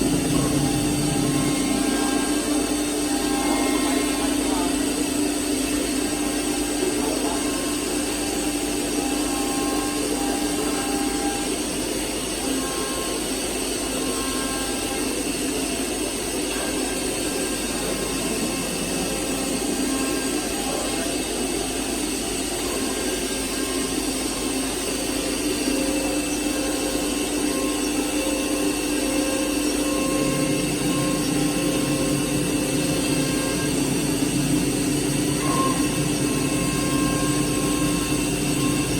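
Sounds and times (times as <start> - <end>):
machine motor whine and hum: 0.0 - 38.9.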